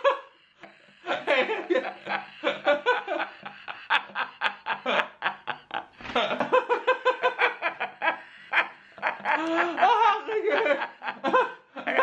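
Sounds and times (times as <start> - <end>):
woman laughing: 1.1 - 12.0.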